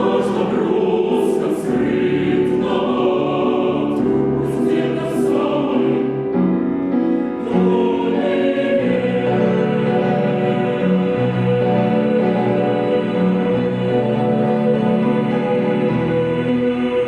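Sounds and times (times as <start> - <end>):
choir singing chords: 0.0 - 17.0
piano accompaniment: 0.0 - 17.0.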